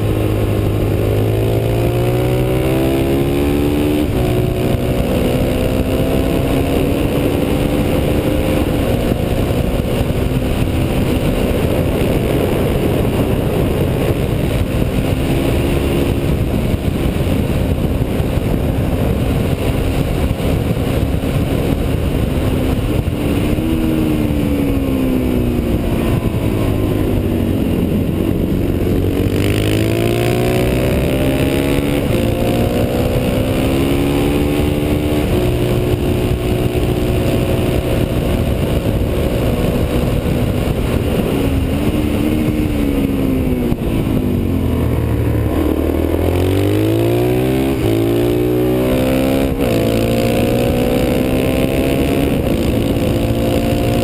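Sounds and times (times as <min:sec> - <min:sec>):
motorcycle engine accelerating: 0:00.0 - 0:54.0
wind rush: 0:00.0 - 0:54.0.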